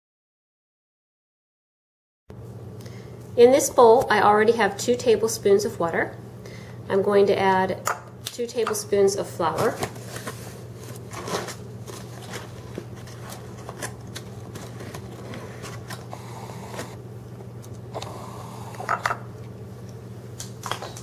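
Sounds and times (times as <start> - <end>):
steady low hum: 2.3 - 21.0.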